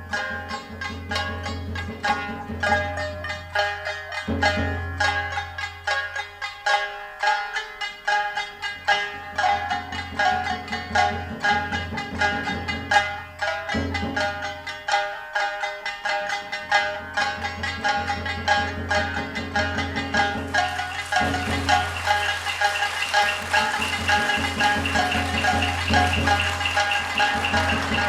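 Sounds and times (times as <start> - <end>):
shamisen plucked in quick runs: 0.0 - 28.0.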